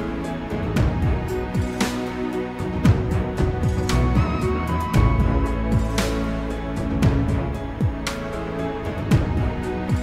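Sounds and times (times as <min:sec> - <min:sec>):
background music with regular beat: 0:00.0 - 0:10.0.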